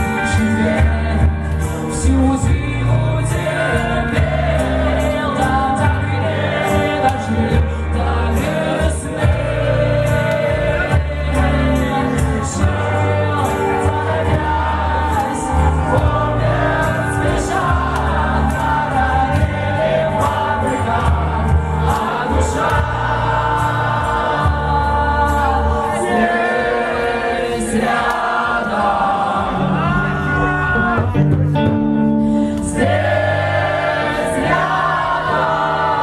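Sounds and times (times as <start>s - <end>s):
live band playing: 0.0s - 26.8s, 27.8s - 36.0s
held bass notes: 0.0s - 36.0s.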